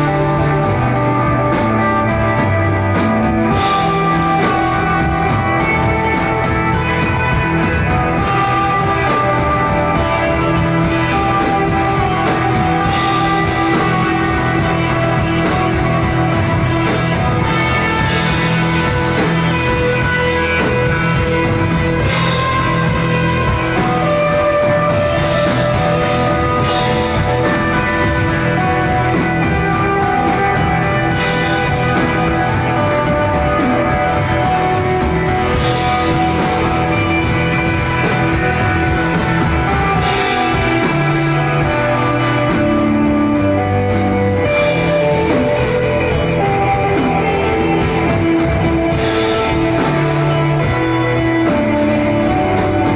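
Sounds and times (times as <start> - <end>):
bass guitar: 0.0 - 52.9
electric guitar: 0.0 - 52.9
live rock band instrumental: 0.0 - 52.9.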